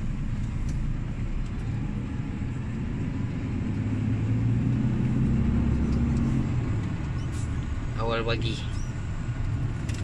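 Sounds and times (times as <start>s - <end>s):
diesel truck engine: 0.0s - 10.0s.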